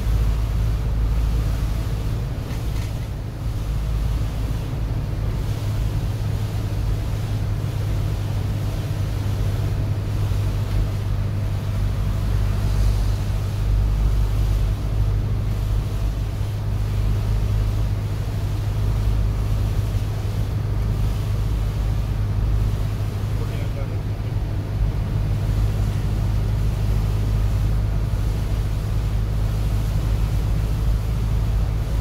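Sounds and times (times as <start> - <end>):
tyres hissing on wet road: 0.0 - 32.0
vehicle engine drone: 0.0 - 32.0.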